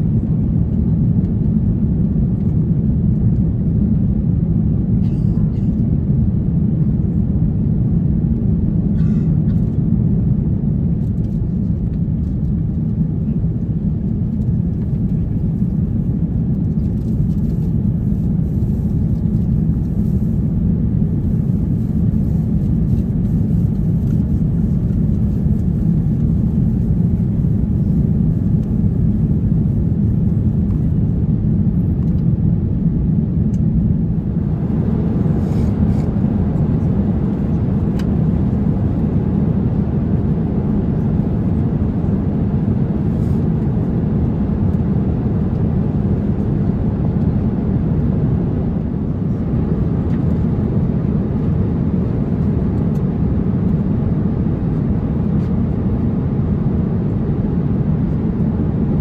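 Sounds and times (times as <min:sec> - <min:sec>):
airliner cabin rumble: 0:00.0 - 0:58.8.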